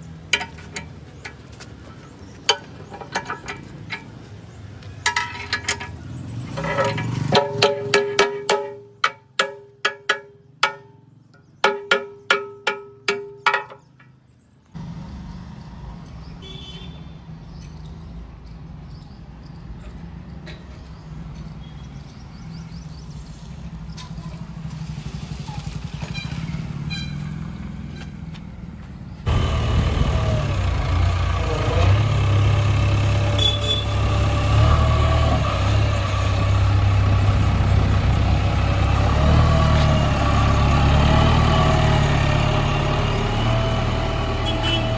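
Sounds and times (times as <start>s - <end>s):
engine rumbling: 0.0s - 15.4s, 23.2s - 44.9s.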